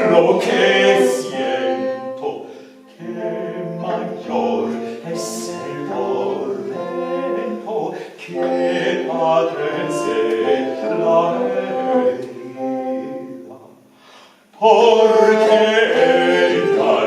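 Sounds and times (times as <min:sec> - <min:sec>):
vocal ensemble singing in harmony: 0:00.0 - 0:17.0.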